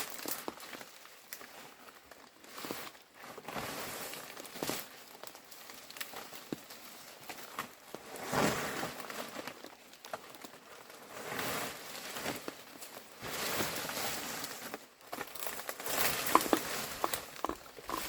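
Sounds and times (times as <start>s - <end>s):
leaves rustling and crinkling: 0.0s - 18.0s.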